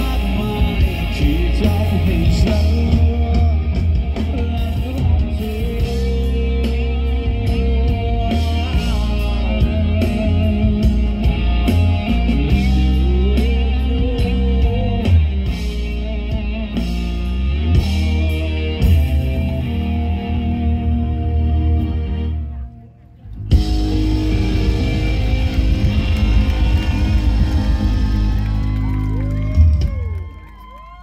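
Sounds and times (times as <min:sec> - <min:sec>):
electric guitar melody: 0:00.0 - 0:30.4
live rock band playing: 0:00.0 - 0:31.0.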